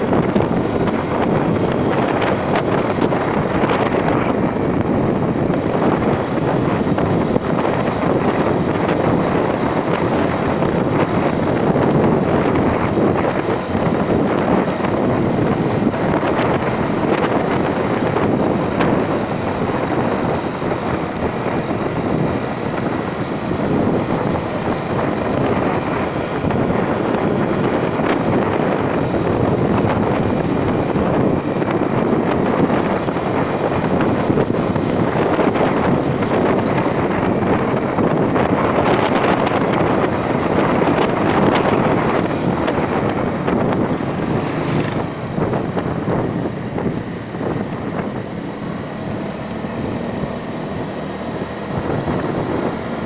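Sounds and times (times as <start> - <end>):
vehicle running: 0.0 - 53.0
wind buffeting microphone: 0.0 - 53.0.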